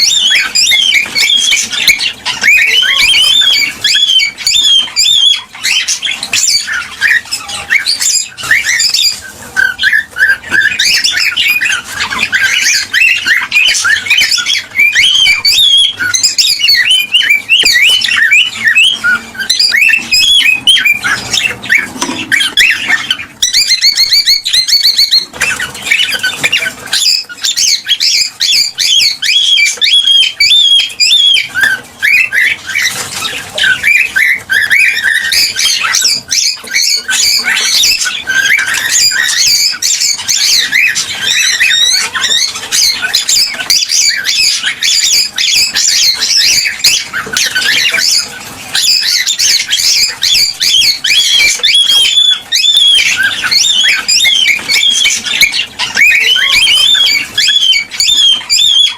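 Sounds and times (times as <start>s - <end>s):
cockatiels chirping and whistling: 0.0s - 58.9s.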